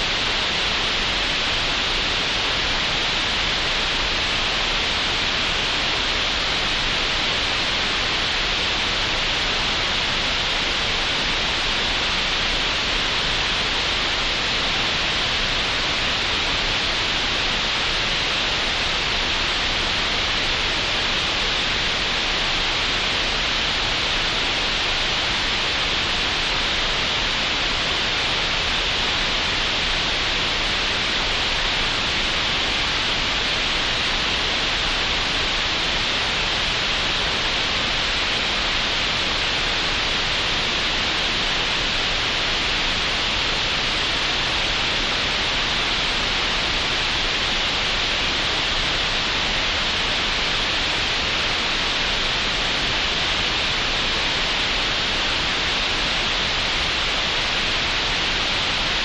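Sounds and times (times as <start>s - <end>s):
steady green noise hiss: 0.0s - 59.0s.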